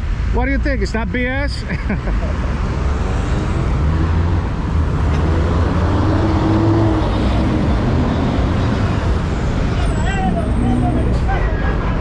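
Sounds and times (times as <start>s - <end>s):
bus engines rumbling: 0.0s - 12.0s.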